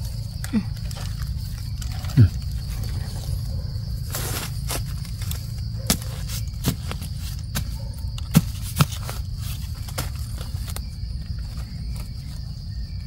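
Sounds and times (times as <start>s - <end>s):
sharp snaps and crackles: 0.0s - 12.5s
insect drone: 0.0s - 13.0s.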